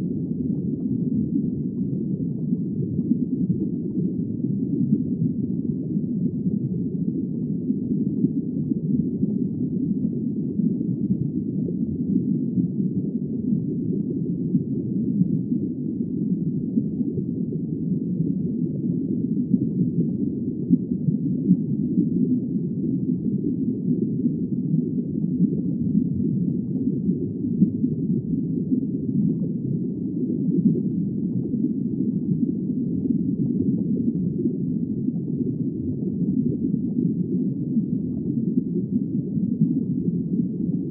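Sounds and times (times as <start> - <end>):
muffled underwater water noise: 0.0 - 40.9.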